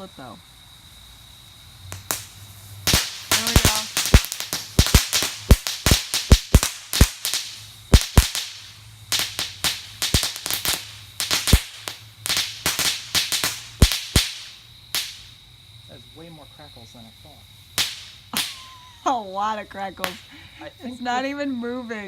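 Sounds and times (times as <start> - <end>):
firework rocket crackling: 0.0 - 22.0.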